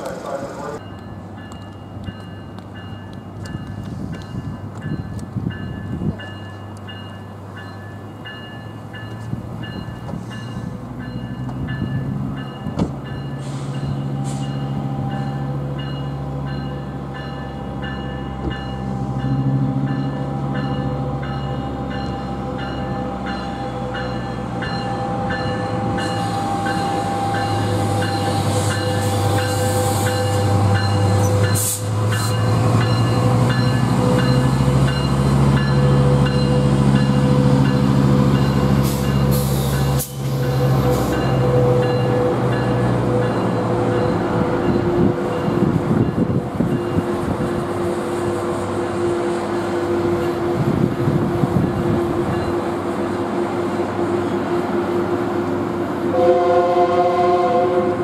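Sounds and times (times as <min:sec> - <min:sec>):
diesel train rumbling: 0:00.0 - 0:58.0.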